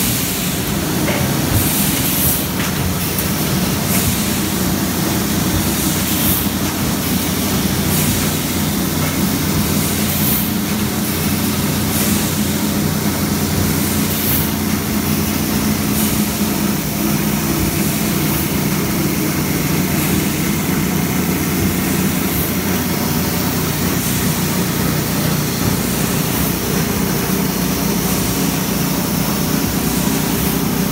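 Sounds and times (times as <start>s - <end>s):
machine hum: 0.0s - 30.9s.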